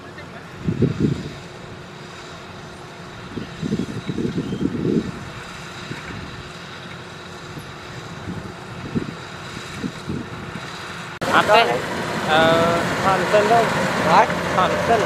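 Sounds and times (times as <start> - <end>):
combine harvester running: 0.0 - 15.0
wind buffeting microphone: 0.5 - 1.8, 3.1 - 6.5, 7.5 - 15.0.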